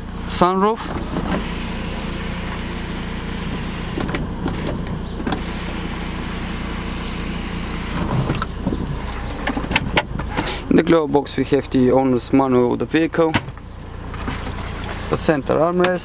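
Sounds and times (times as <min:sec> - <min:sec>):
sunroof motor running: 0:00.0 - 0:15.8.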